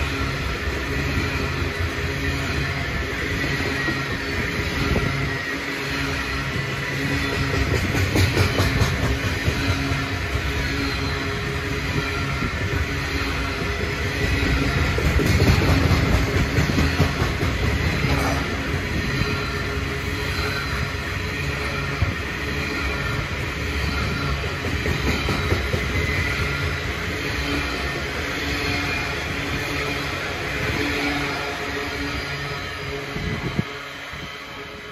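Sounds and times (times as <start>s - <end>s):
train wheels on rails: 0.0s - 34.9s.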